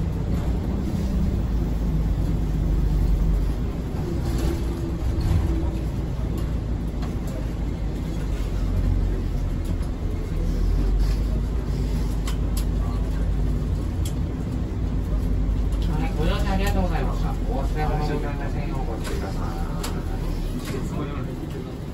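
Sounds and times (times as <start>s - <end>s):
bus engine and road noise: 0.0s - 21.9s.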